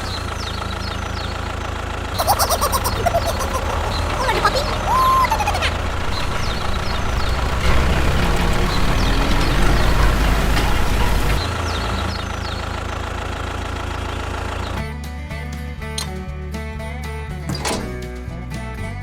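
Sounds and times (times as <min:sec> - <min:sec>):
heavy vehicle engine idling: 0:00.0 - 0:19.0.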